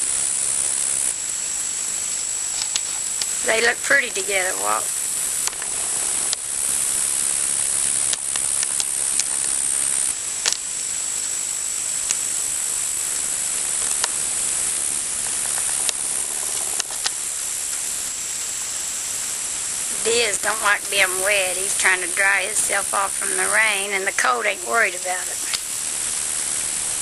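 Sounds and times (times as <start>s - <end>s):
light rain hiss: 0.0s - 27.0s.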